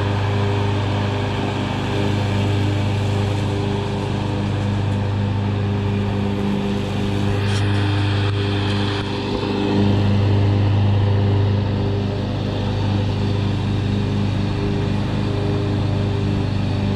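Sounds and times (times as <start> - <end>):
riding lawn mower engine hum: 0.0 - 16.9.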